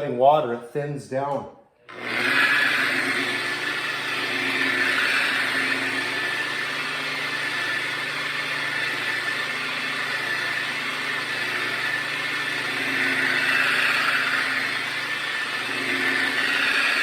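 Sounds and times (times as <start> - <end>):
electric polisher running: 1.9 - 17.0.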